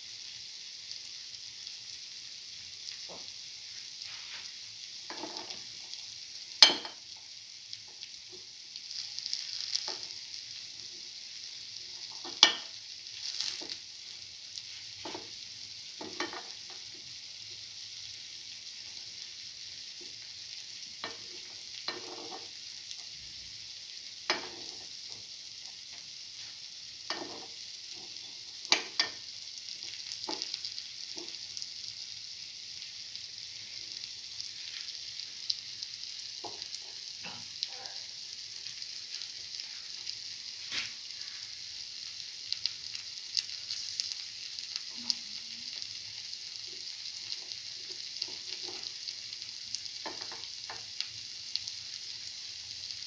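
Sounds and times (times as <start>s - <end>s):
fritters sizzling in oil: 0.0s - 53.0s.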